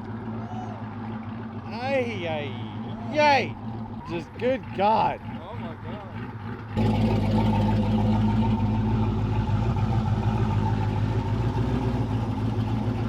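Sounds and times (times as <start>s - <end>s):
turbocharged engine idling: 0.0s - 13.0s.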